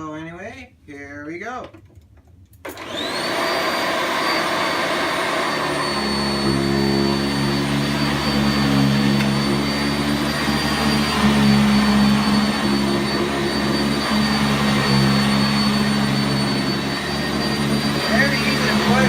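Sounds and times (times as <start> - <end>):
vacuum cleaner whine: 2.6 - 19.0.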